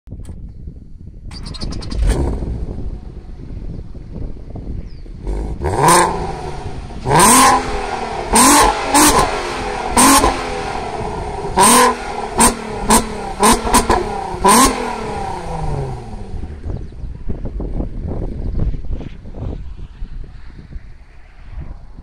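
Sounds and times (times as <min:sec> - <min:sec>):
car engine idling and revving: 0:01.3 - 0:19.1.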